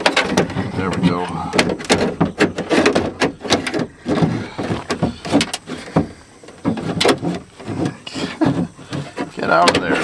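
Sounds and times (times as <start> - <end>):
metal clanking and scraping: 0.0 - 10.0.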